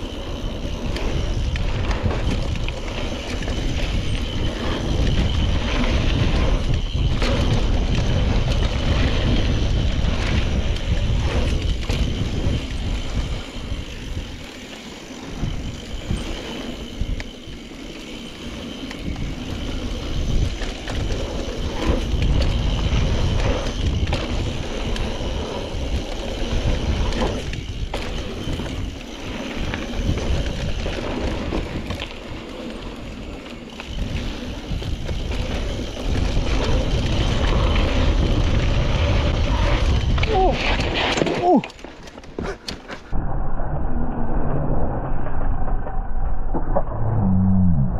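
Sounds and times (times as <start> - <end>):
bike rattling over bumps: 0.0 - 43.1
wind and tyre noise: 0.0 - 47.9.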